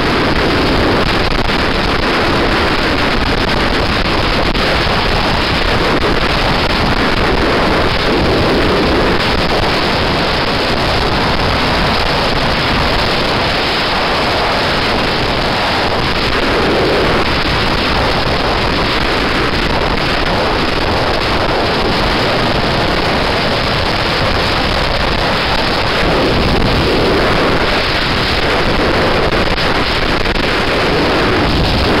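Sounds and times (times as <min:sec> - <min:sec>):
wind rushing on microphone: 0:00.0 - 0:32.0.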